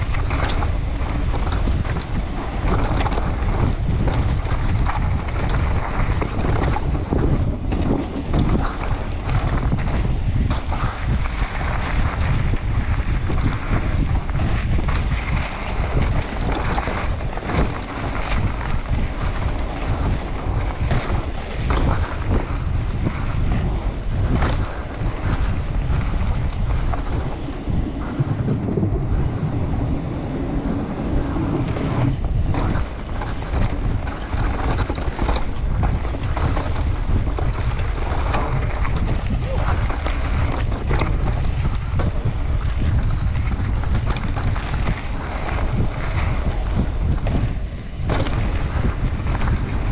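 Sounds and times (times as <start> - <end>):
bike rattling and knocking: 0.0 - 49.9
bike tyres rolling on gravel: 0.0 - 49.9
wind rushing over microphone: 0.0 - 49.9.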